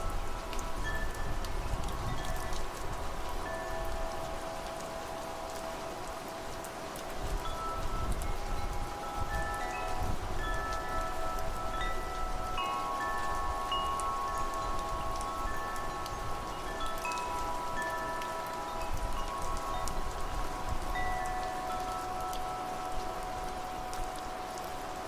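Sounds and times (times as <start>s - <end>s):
rain drop ticks: 0.0s - 25.0s
steady rain: 0.0s - 25.0s
wind chimes ringing: 0.0s - 25.0s.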